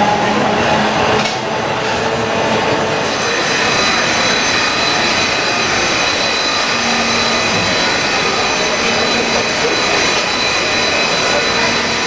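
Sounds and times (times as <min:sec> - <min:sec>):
murmur of crowd: 0:00.0 - 0:12.0
train mechanical whir: 0:00.0 - 0:12.0.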